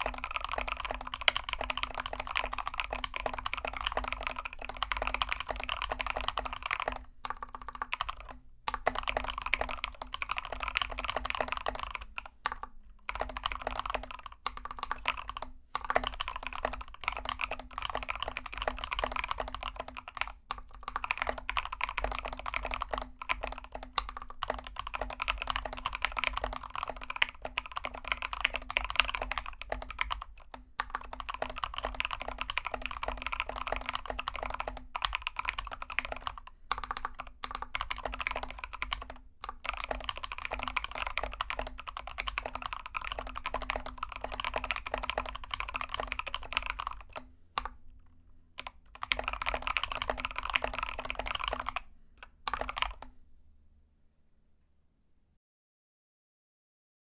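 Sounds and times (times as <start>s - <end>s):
fast mechanical keyboard typing: 0.0s - 47.8s, 48.6s - 53.1s.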